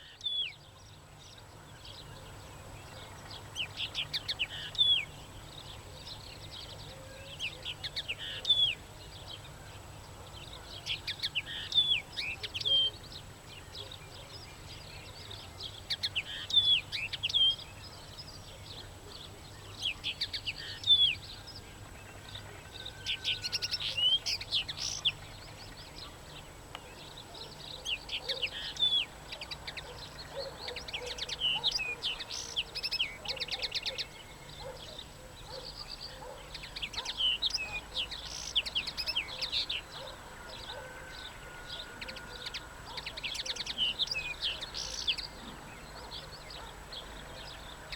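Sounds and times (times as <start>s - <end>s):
songbird chirping and trilling: 0.0s - 47.9s.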